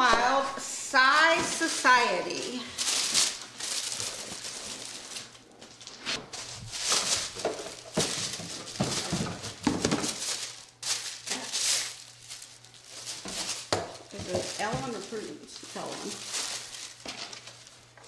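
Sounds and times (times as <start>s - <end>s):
paper and plastic rustling: 1.1s - 18.0s.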